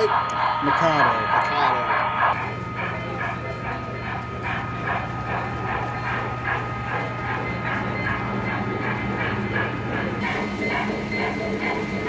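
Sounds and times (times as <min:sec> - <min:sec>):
model steam locomotive chuffing: 0:00.0 - 0:12.0
steady low hum: 0:00.0 - 0:12.0.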